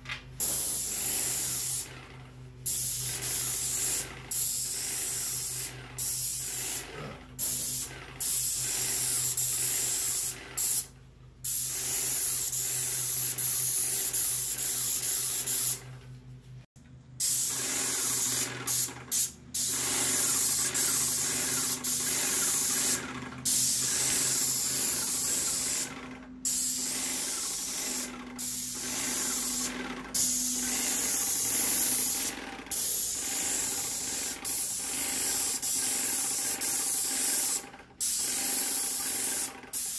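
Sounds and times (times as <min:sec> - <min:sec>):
paint spray gun hissing: 0:00.4 - 0:01.9, 0:02.6 - 0:15.8, 0:17.2 - 0:25.9, 0:26.5 - 0:39.9.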